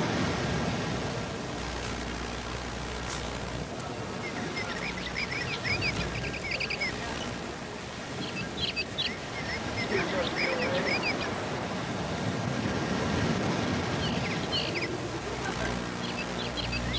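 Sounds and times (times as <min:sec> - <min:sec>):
tape hiss: 0:00.0 - 0:16.9
birds chirping: 0:01.1 - 0:16.9.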